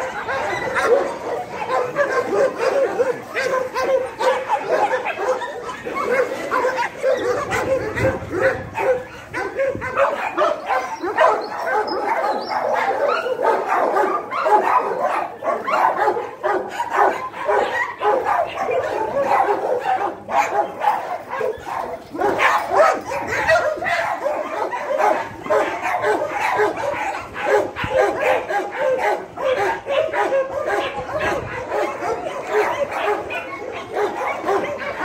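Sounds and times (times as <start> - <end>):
dogs barking: 0.0 - 35.0.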